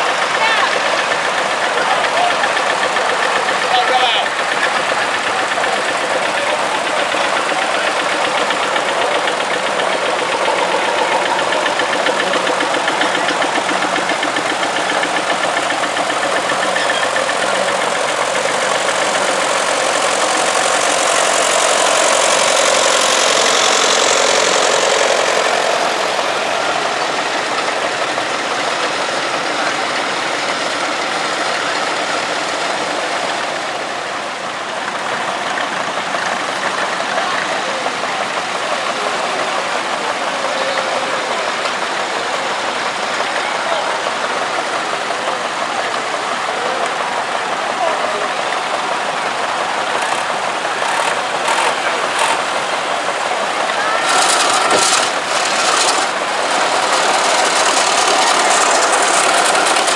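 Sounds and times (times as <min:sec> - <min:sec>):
tractor engines driving past: 0:00.0 - 0:59.9.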